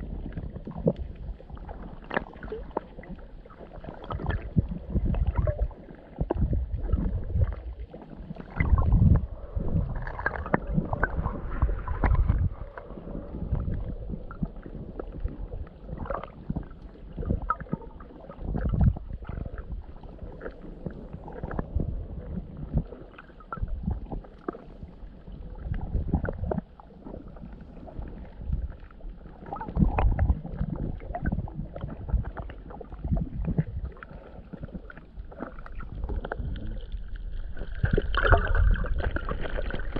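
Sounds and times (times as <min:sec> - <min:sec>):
underwater seawater sloshing: 0:00.0 - 0:39.9.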